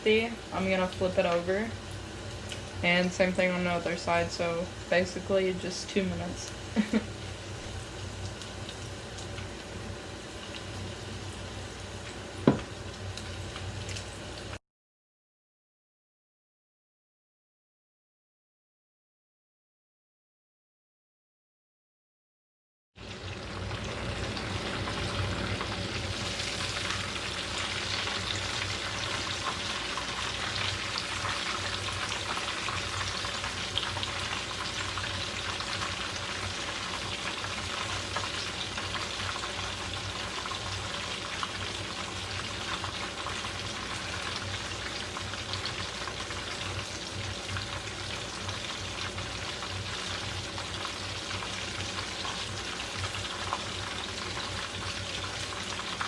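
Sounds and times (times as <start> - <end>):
chicken frying in oil: 0.0 - 14.6, 23.0 - 56.0.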